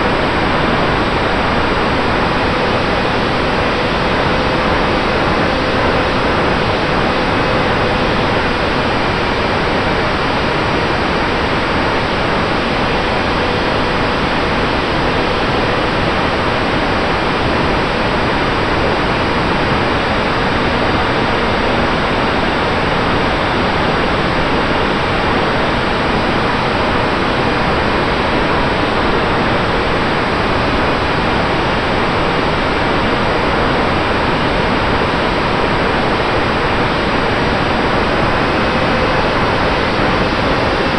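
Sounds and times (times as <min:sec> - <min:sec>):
airflow rushing over microphone: 0:00.0 - 0:40.9.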